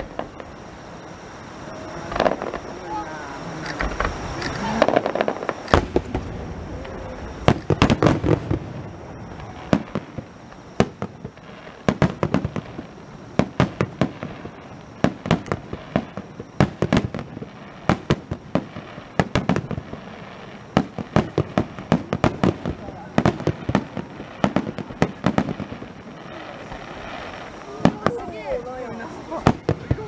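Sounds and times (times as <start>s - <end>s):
fireworks booming: 0.0s - 30.0s.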